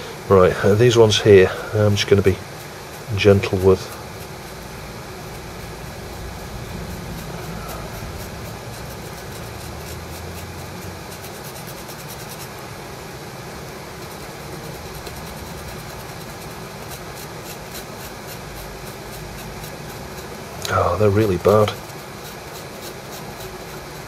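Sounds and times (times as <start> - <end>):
fan hum: 0.0 - 24.0
pen scratching circuit board: 0.7 - 12.7, 13.6 - 24.0.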